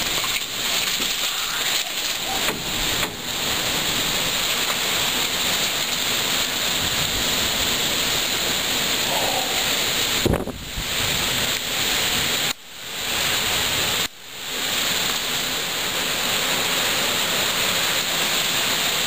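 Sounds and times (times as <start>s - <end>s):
storm wind and rain rushing: 0.0s - 19.0s.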